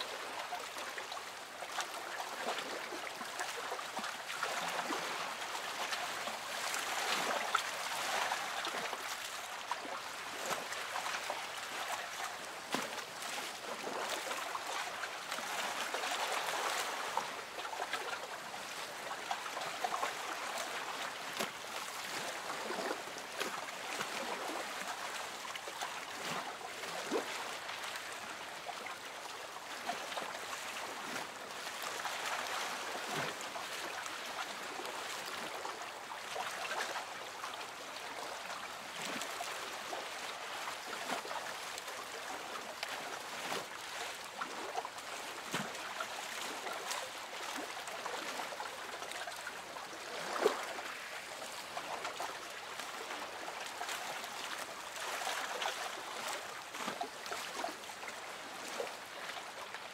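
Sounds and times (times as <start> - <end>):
small waves lapping against boat hull: 0.0 - 59.9.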